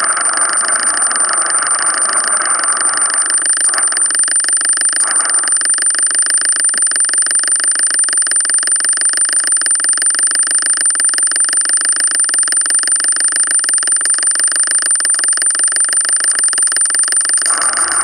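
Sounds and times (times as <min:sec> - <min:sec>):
fast-pulsing buzz: 0:00.0 - 0:18.0
high-pitched electronic whine: 0:00.0 - 0:18.0.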